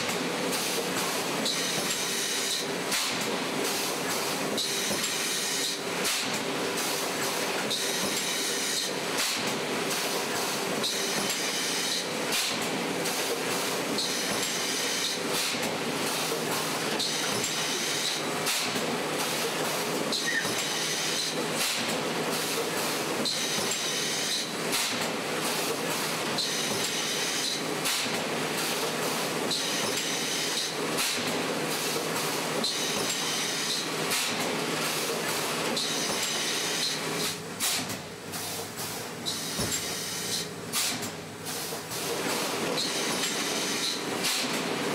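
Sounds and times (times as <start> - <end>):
industrial machine running: 0.0 - 44.9
machine hiss: 0.0 - 44.9.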